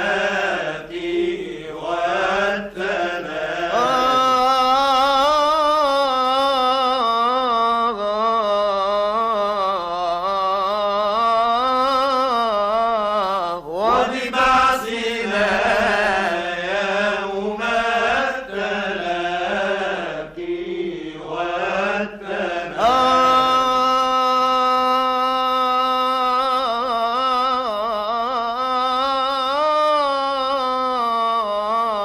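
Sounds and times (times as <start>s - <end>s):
man chanting: 0.0s - 20.5s, 21.7s - 32.0s.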